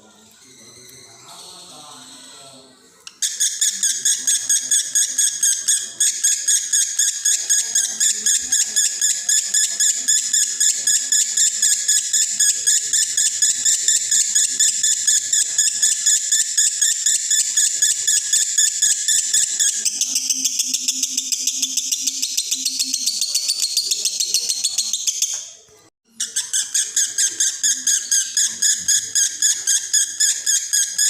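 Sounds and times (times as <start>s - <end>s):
lovebird chirping chatter: 0.0s - 31.0s.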